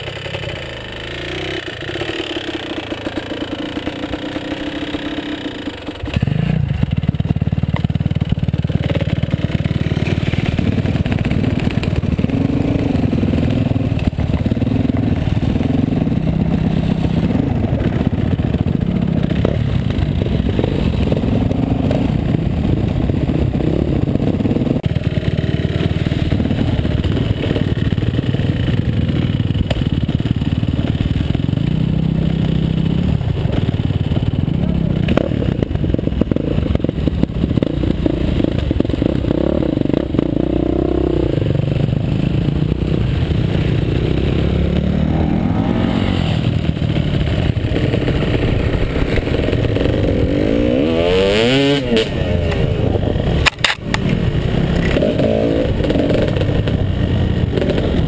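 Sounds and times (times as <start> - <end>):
dirt bike engine revving: 0.0 - 7.4, 8.1 - 58.0.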